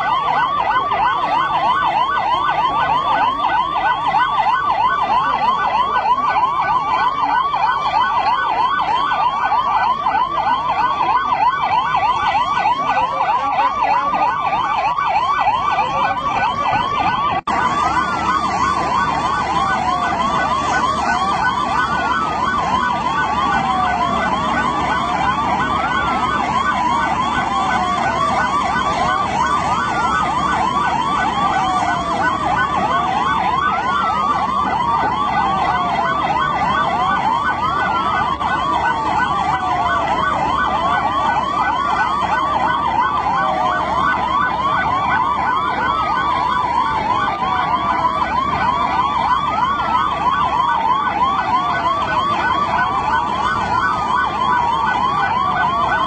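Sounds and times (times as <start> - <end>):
fast warbling siren: 0.0 - 56.0
siren sweeping downward: 0.0 - 56.0.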